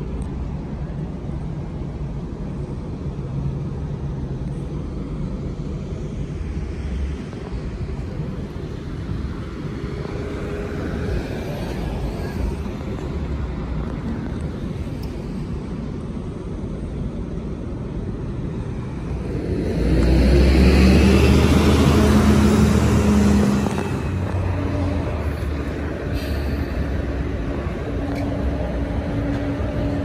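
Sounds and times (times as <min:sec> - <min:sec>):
bus engine idling: 0:00.0 - 0:30.0
car passing: 0:03.3 - 0:30.0.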